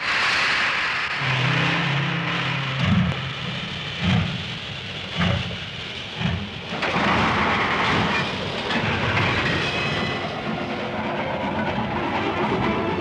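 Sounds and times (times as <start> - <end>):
speeding train rushing on rails: 0.0 - 13.0.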